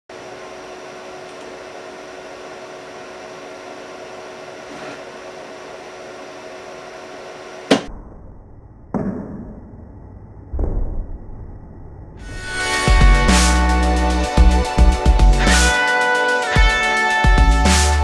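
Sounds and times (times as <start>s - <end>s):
steady machine hum: 0.1s - 8.8s, 9.7s - 18.0s.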